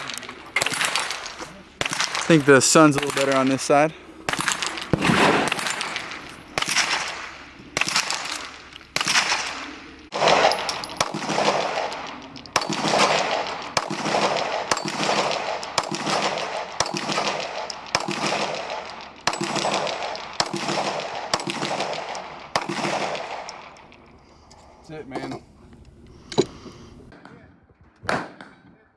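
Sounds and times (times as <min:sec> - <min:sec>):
rifle shots echoing: 0:00.0 - 0:27.3, 0:28.1 - 0:28.6.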